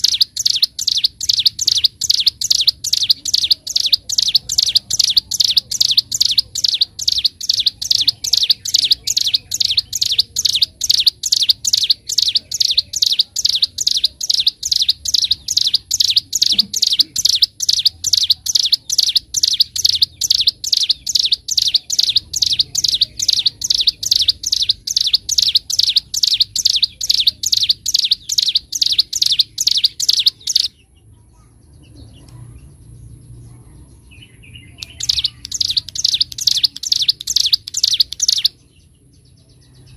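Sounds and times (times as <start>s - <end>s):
songbird singing high notes: 0.0s - 30.8s, 34.5s - 38.6s.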